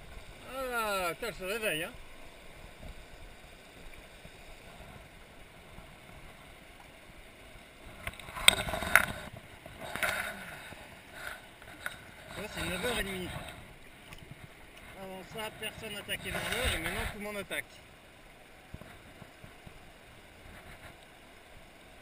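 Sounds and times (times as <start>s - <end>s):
mountain river rushing: 0.0s - 22.0s.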